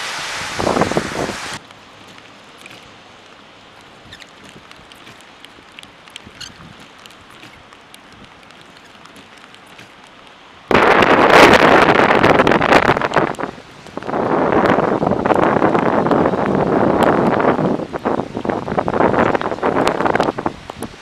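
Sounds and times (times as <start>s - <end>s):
gusty wind buffeting microphone: 0.0s - 2.3s, 3.9s - 21.0s
low storm background: 0.0s - 21.0s.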